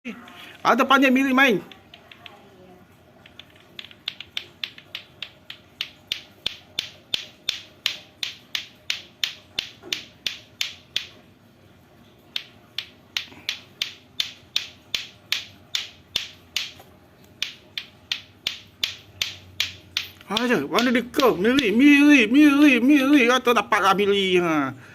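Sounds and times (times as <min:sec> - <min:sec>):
plastic clacker balls clacking: 0:00.2 - 0:02.5, 0:03.2 - 0:11.2, 0:12.3 - 0:23.3.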